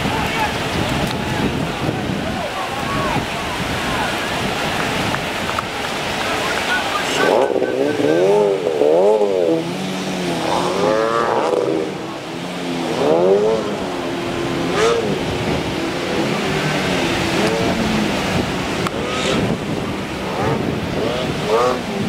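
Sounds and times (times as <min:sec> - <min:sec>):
waves breaking: 0:00.0 - 0:22.0
outboard motor revving: 0:04.2 - 0:22.0.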